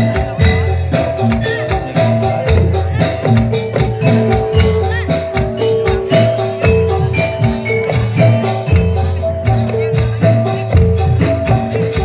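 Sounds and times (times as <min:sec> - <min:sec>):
drum strokes: 0:00.0 - 0:12.0.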